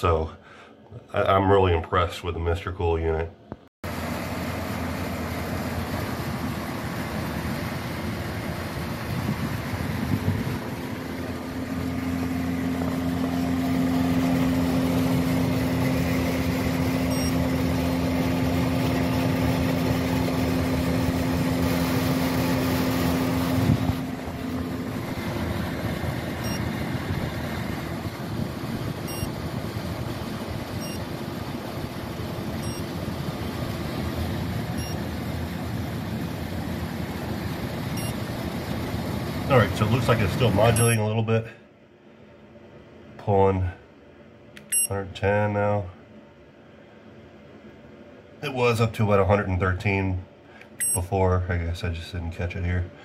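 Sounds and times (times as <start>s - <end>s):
compressor hum: 0.0s - 53.0s
heat pump fan noise: 0.0s - 53.0s.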